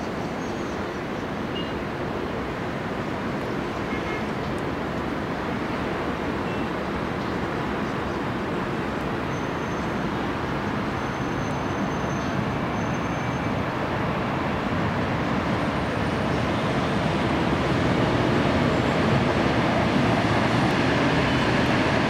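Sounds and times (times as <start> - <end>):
distant passenger train running: 0.0 - 22.0.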